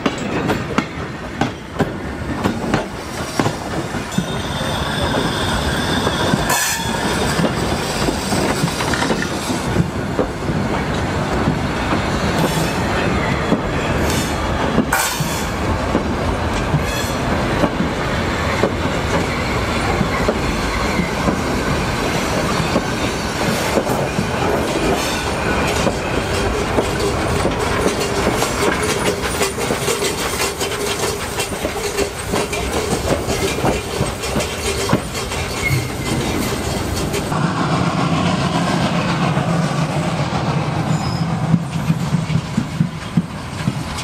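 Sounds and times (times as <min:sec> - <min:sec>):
train wheels clickety-clack on rails: 0:00.0 - 0:44.0.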